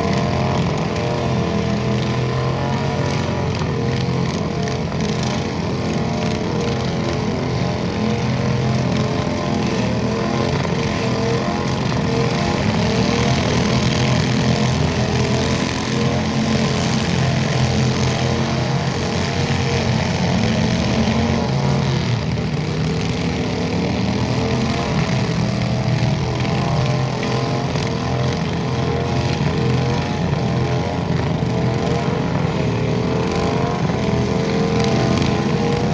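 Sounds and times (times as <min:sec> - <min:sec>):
loud tractor engine running: 0:00.0 - 0:35.9.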